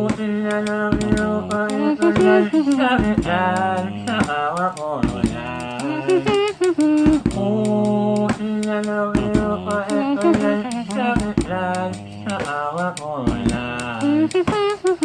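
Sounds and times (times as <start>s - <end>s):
person singing held notes: 0.0s - 15.0s
quick percussion strikes: 0.0s - 15.0s.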